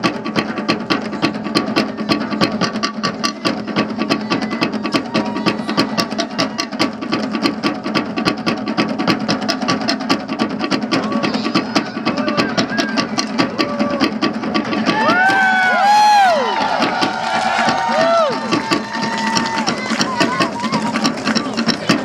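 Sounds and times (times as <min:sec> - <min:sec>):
drumming on wooden log drums: 0:00.0 - 0:22.0.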